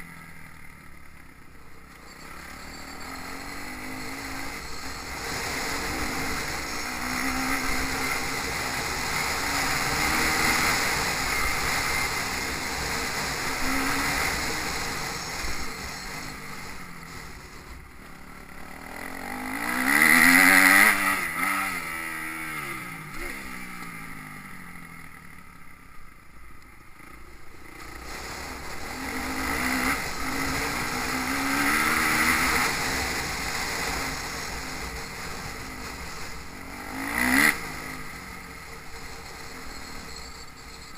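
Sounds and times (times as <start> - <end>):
motocross bike engines revving: 0.0 - 40.9
motorbike passing close: 1.8 - 25.8, 26.9 - 40.9.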